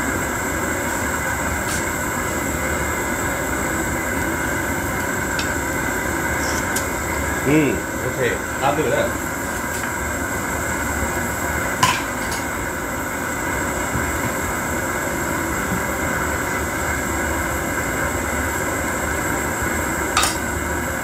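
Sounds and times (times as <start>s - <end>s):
gas burner rushing: 0.0s - 21.0s.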